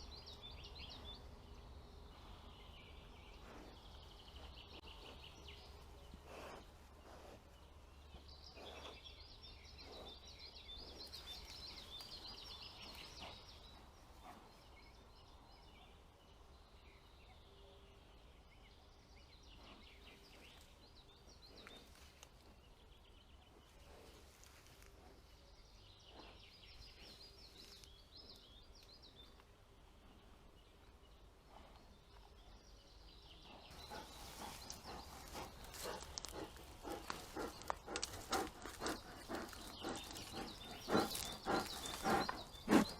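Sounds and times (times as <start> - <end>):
small birds singing: 0.0 - 42.9.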